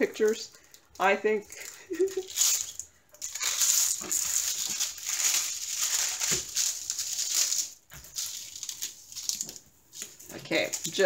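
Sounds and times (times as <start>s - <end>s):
plastic film crinkling and rustling: 0.0s - 11.0s.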